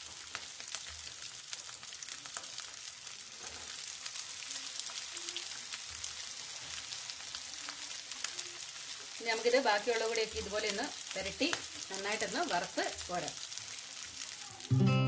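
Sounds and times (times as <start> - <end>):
chicken sizzling in oil: 0.0 - 14.8.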